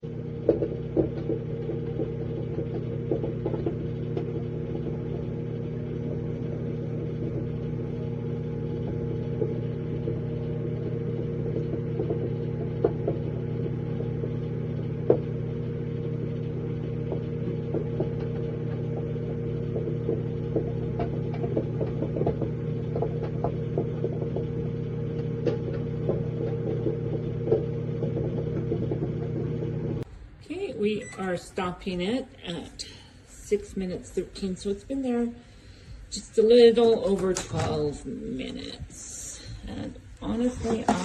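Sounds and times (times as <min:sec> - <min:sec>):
microwave oven humming: 0:00.0 - 0:41.0.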